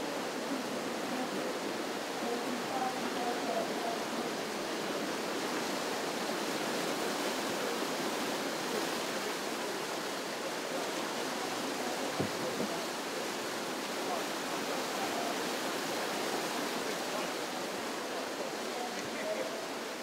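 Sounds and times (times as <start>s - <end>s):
whitewater rapids rushing: 0.0s - 20.0s.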